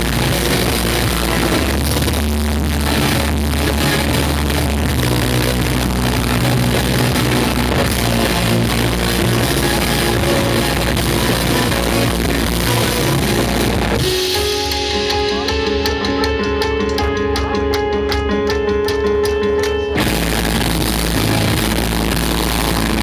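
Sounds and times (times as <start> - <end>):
picked guitar notes: 0.0 - 23.0
post-rock band playing: 0.0 - 23.0.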